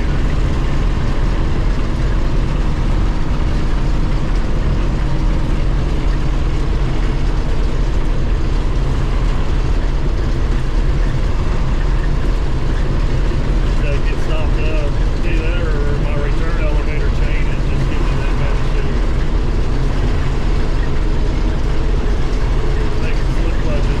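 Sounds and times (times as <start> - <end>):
combine harvester droning: 0.0 - 24.0.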